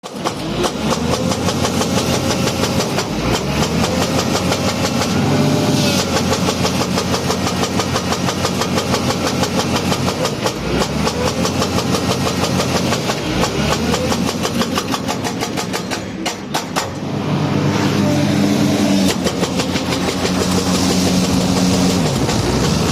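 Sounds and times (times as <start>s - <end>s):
engine running with rapid knocking: 0.0s - 22.9s.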